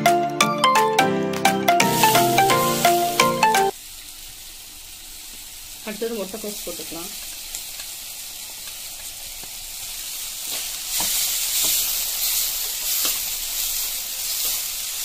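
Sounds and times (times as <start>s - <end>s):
cabbage sizzling in hot oil: 1.8s - 15.0s.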